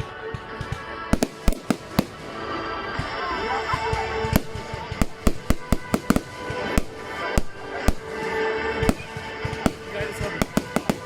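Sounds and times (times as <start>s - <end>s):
music with held tones: 0.0s - 11.0s
fireworks bangs: 0.4s - 11.0s.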